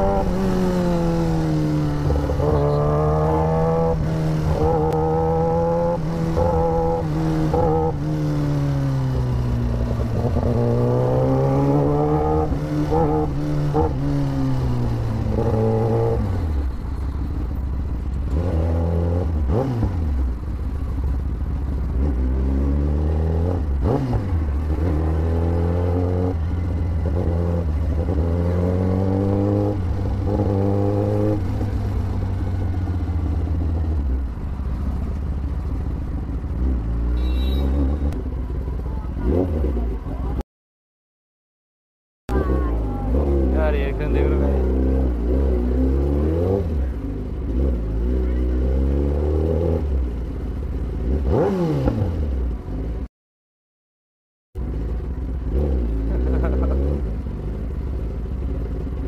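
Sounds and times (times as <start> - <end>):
motorcycle engine accelerating: 0.0 - 40.4, 42.3 - 53.1, 54.6 - 59.0.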